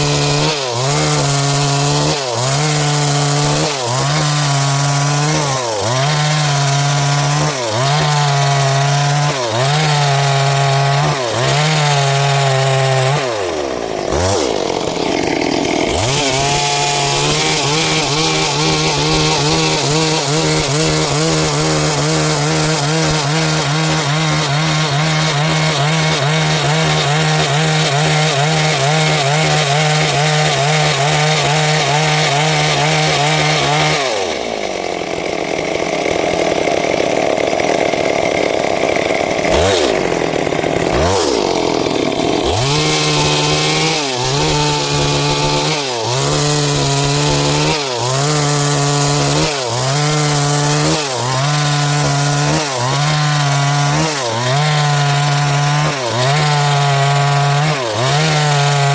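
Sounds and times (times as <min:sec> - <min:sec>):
chainsaw cutting wood: 0:00.0 - 0:58.9.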